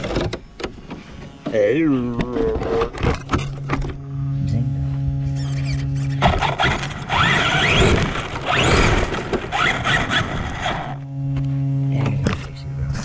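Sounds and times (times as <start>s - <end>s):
electric motor whine: 0.0s - 13.0s
steady electric hum: 0.0s - 13.0s.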